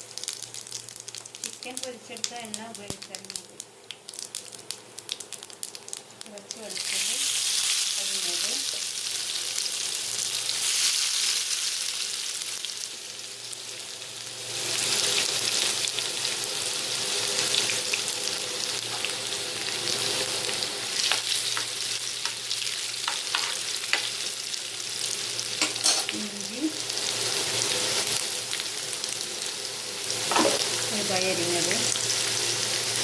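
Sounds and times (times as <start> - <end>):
garlic sizzling in hot oil: 0.0 - 33.0.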